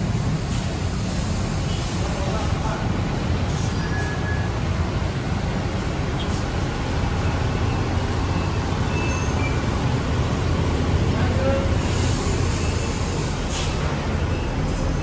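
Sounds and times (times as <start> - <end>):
bus engine rumble: 0.0 - 15.0
street traffic: 0.0 - 15.0.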